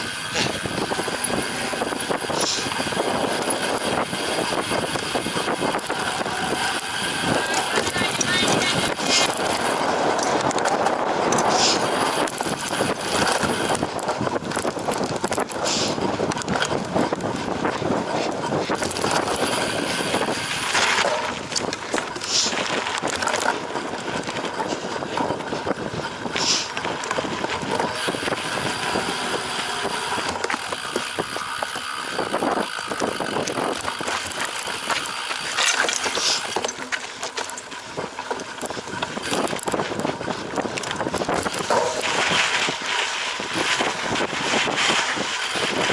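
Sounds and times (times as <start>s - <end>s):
bicycle clicks: 0.0s - 45.9s
bicycle rattling over rough ground: 0.0s - 45.9s.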